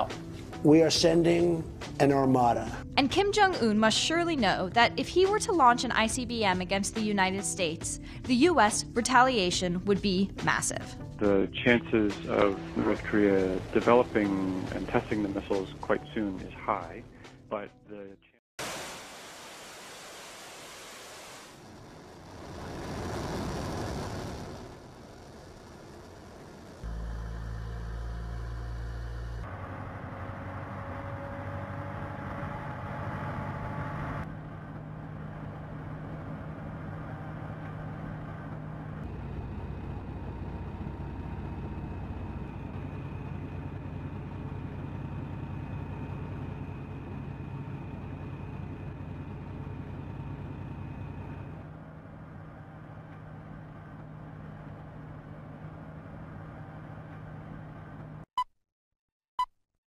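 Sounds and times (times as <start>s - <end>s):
heavy vehicle engine humming: 0.0s - 17.5s, 21.6s - 58.2s.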